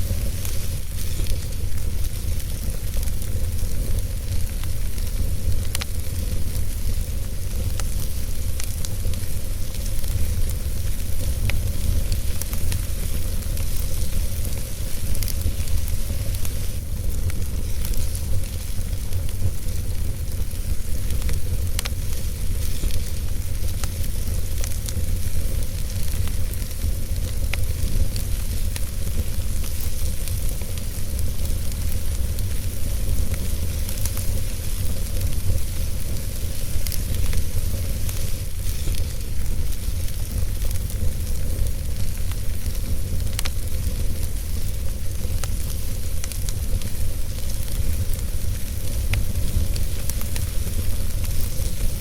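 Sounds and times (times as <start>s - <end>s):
fire crackling and popping: 0.0s - 52.0s
fire hissing: 0.0s - 52.0s.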